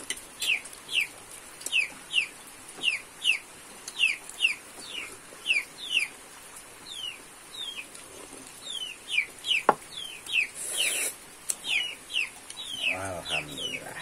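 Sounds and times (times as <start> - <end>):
chicks peeping: 0.3 - 6.2, 6.8 - 14.0.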